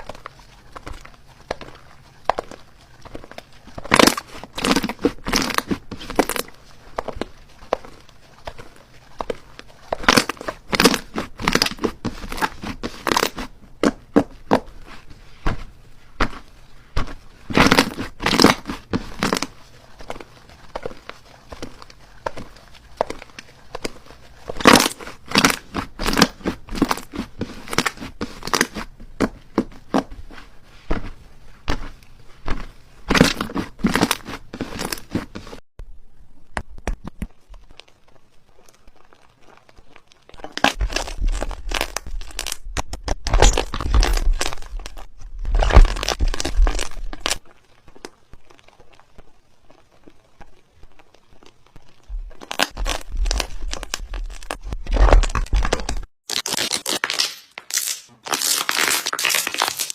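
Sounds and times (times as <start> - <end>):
slime crackling and popping: 0.0 - 14.8, 17.0 - 30.1, 36.8 - 59.9.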